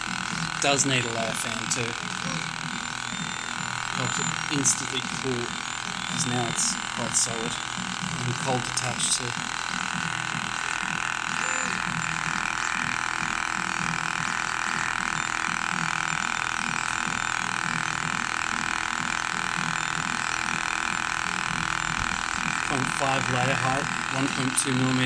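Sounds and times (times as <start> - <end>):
low motor hum: 0.0 - 25.0
three d printer whir: 0.0 - 25.0.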